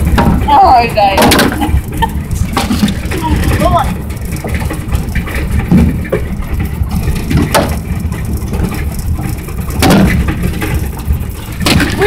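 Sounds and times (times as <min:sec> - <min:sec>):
knocks and rattles: 0:00.0 - 0:12.0
truck road rumble: 0:00.0 - 0:12.0.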